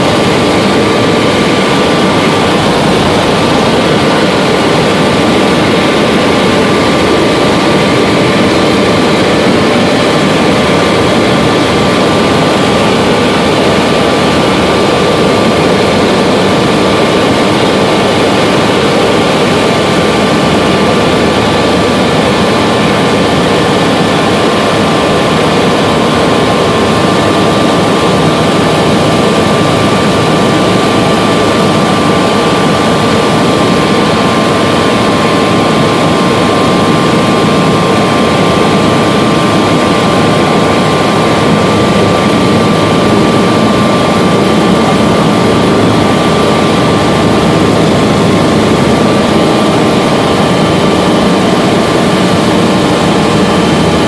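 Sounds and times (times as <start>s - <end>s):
helicopter engine and rotor noise: 0.0s - 54.0s
thin steady whine: 0.0s - 54.0s.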